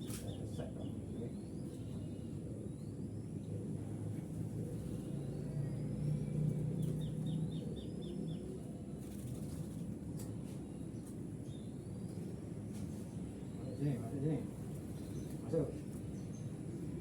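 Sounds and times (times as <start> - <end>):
small birds chirping: 0.0 - 3.7, 4.6 - 17.0.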